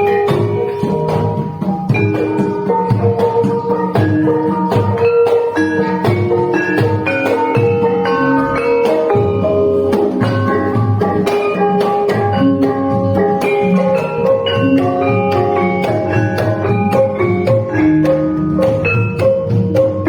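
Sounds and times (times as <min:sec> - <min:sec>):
gamelan metallophones ringing: 0:00.0 - 0:20.0.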